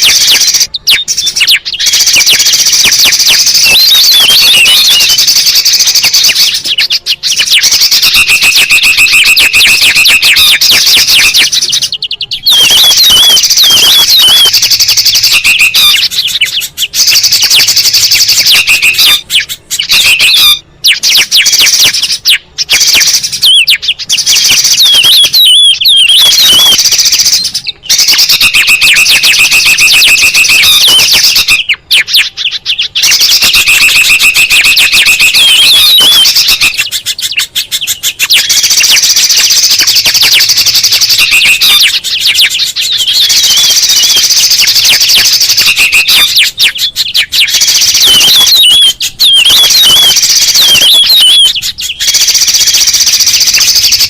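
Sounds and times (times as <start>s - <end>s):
songbirds chattering and warbling: 0.0s - 54.0s.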